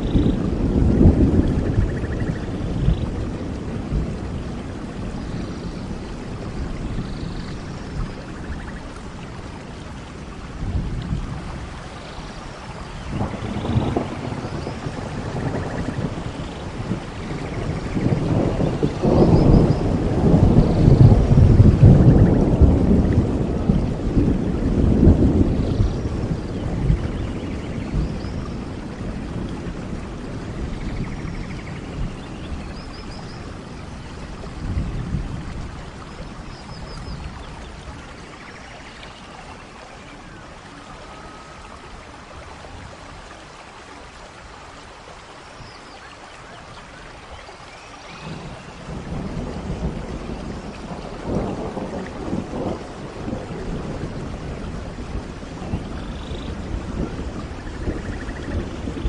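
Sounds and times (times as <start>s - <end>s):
low thunder rumble: 0.0s - 43.3s, 48.0s - 59.0s
steady rain falling: 0.0s - 59.0s.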